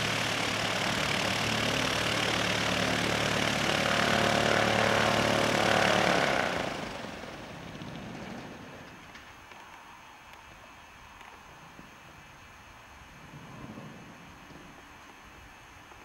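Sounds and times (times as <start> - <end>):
light aircraft engine passing: 0.0 - 9.4, 11.5 - 16.0.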